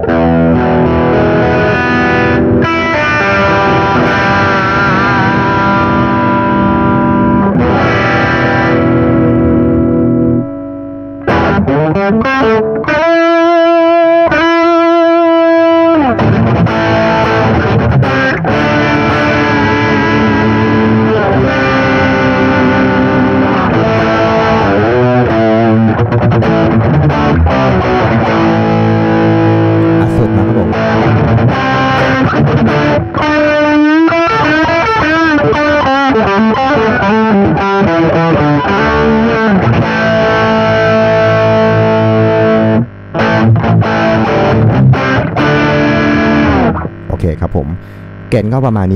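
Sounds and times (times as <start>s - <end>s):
distorted electric guitar: 0.0s - 48.9s.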